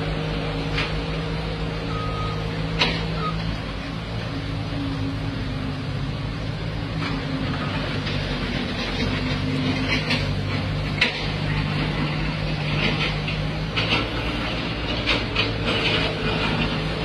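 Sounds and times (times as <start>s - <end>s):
heavy machinery engines running: 0.0s - 17.0s.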